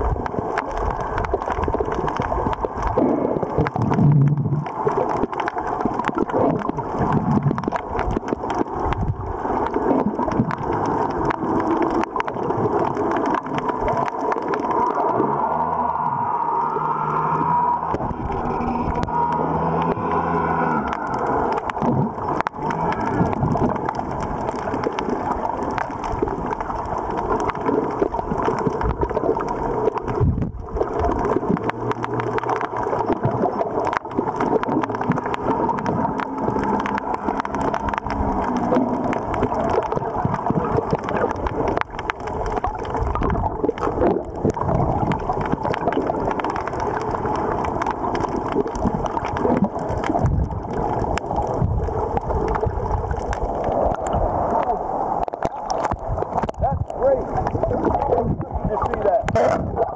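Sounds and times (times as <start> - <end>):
muffled underwater surf rushing: 0.0 - 59.9
underwater crackling and clicking: 0.0 - 59.9.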